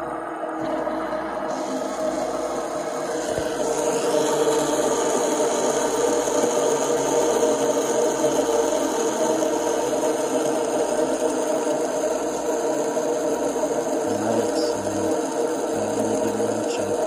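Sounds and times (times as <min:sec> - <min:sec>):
fidget spinners spinning: 0:00.0 - 0:17.0.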